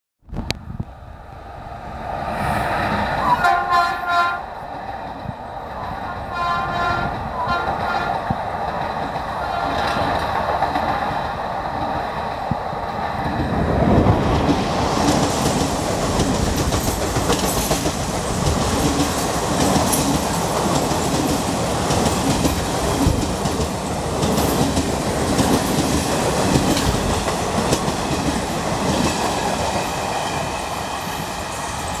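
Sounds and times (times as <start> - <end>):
train wheels clickety-clack: 4.8 - 32.0.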